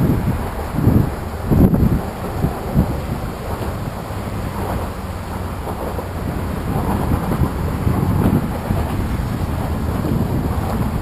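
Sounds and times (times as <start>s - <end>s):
muffled rumbling and knocking: 0.0s - 11.0s.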